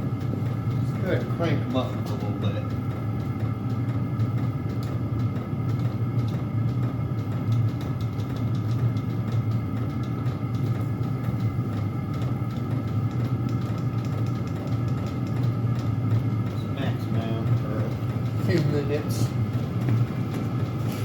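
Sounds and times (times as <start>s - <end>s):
air heaters humming: 0.0s - 21.0s
fans whining: 0.0s - 21.0s.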